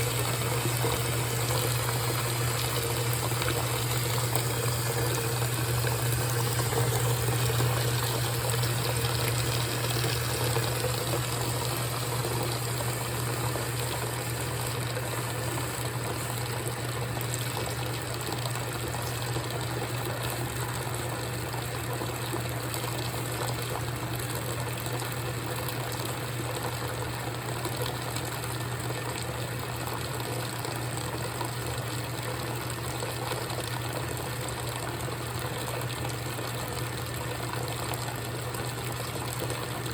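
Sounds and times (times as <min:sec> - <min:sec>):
washing machine hum: 0:00.0 - 0:39.9
water sloshing in washing machine: 0:00.0 - 0:39.9.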